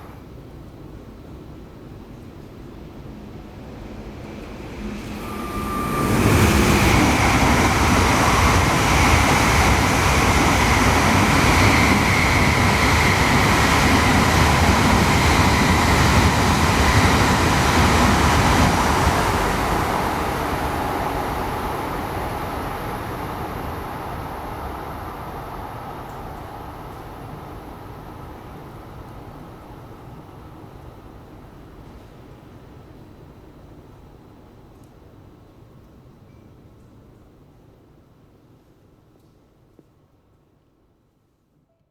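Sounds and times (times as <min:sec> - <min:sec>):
train passing at speed: 0:00.0 - 0:34.2.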